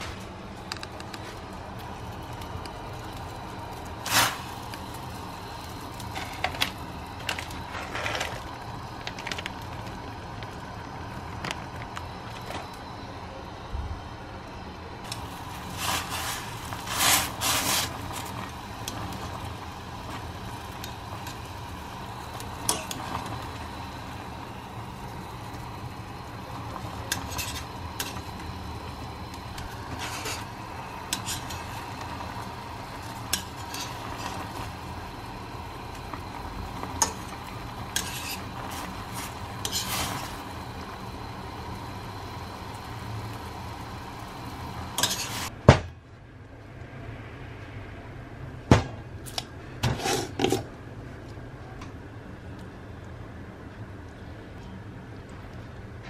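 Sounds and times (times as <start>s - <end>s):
water boiling in a pot: 0.0s - 56.0s.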